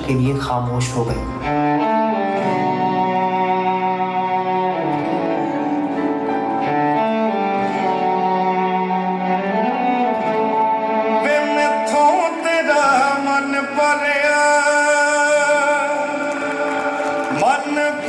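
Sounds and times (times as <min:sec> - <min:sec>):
slow bowed string music: 0:00.0 - 0:16.2.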